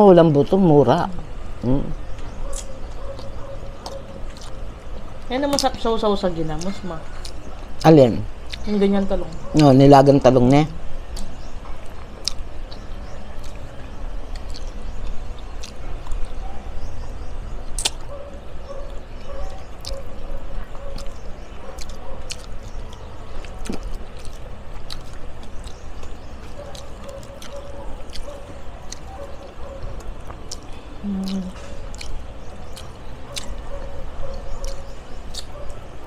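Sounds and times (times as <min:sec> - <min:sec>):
people chewing and smacking: 0:01.5 - 0:36.0.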